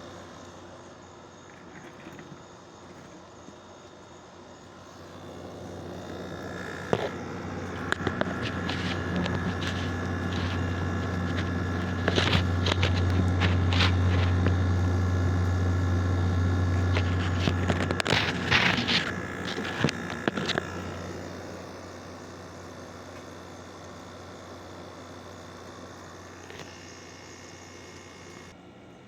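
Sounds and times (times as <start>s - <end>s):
high steady whine: 0.0s - 28.6s
air conditioner low hum: 0.0s - 29.0s.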